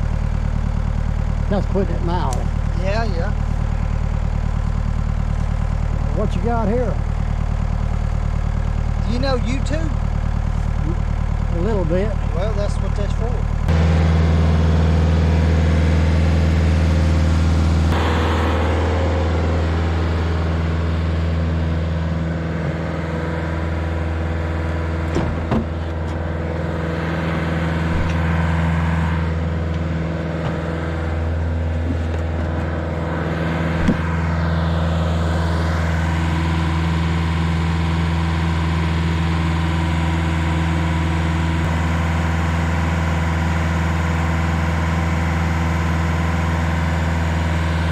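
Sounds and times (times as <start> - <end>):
stump grinder engine running: 0.0 - 47.9.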